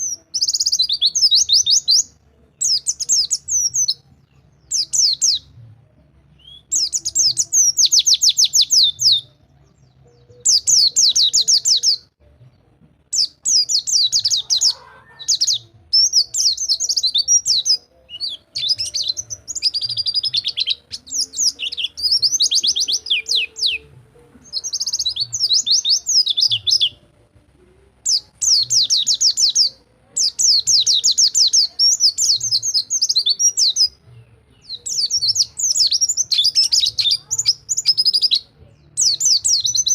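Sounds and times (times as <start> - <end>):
bird singing rapid trills: 0.0 - 5.4, 6.4 - 12.1, 13.1 - 27.0, 28.0 - 34.0, 34.6 - 39.9.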